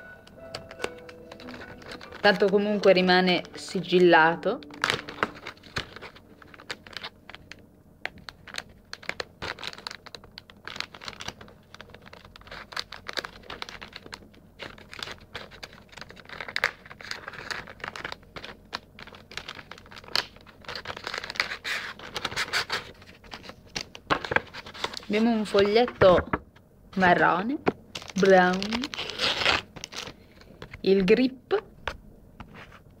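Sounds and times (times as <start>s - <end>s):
plastic bag crinkling: 0.5s - 25.7s, 27.9s - 30.8s.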